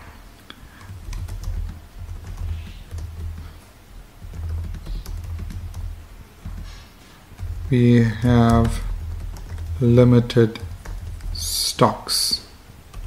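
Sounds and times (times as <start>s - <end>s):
keyboard typing: 0.5s - 13.0s.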